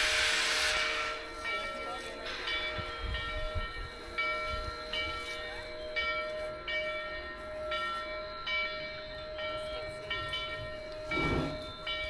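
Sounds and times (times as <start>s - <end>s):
steam locomotive bell ringing: 0.0s - 12.0s.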